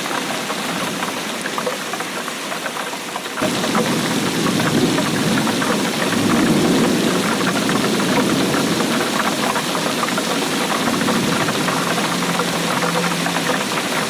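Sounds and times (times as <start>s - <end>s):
drops ticking on hard surface: 0.0s - 14.0s
heavy rain: 0.0s - 14.0s.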